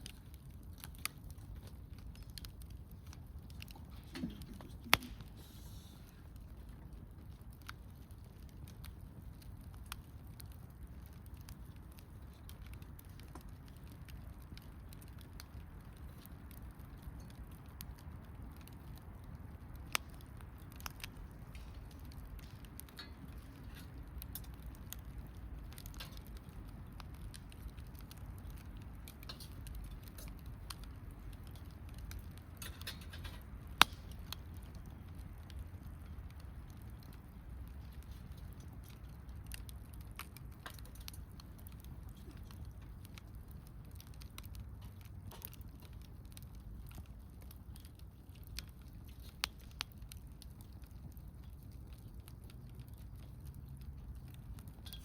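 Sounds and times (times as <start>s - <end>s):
campfire crackling: 0.0s - 55.0s
fire popping: 0.0s - 55.0s.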